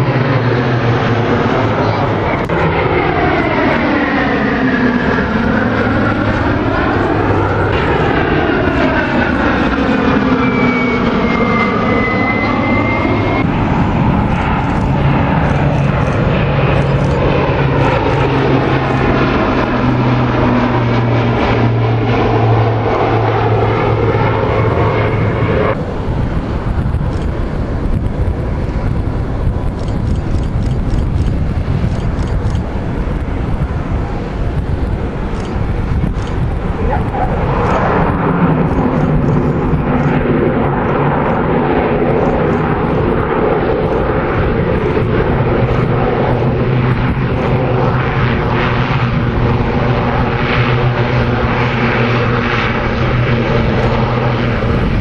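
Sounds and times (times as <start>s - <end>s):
propeller plane engines droning: 0.0s - 55.0s.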